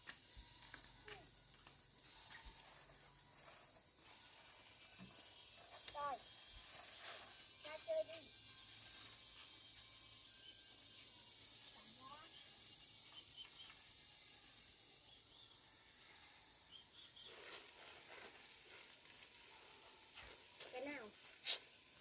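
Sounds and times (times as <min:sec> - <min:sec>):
insect trilling: 0:00.5 - 0:22.0.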